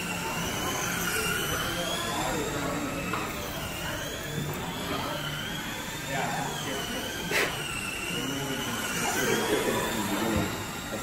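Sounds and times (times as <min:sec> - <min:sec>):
rc car motors whining: 0:00.0 - 0:11.0
steady background noise: 0:00.0 - 0:11.0.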